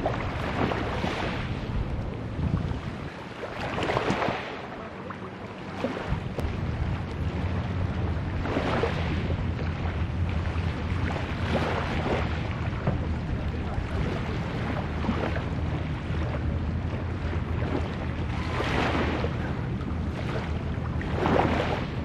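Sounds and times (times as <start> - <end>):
small waves washing onto shore: 0.0 - 22.0
wind rumble on microphone: 0.0 - 22.0.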